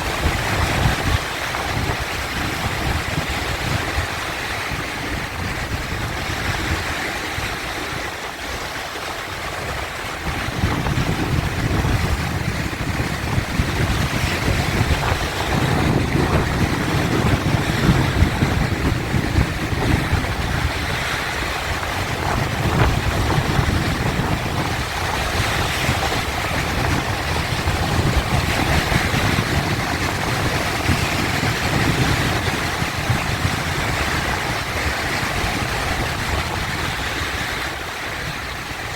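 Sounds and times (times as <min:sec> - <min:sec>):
sea waves rushing: 0:00.0 - 0:38.9.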